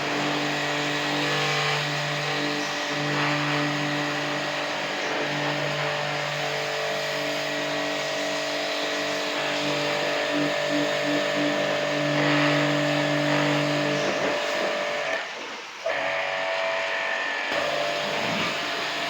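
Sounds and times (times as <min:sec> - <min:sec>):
pressure washer motor hum: 0:00.0 - 0:19.0.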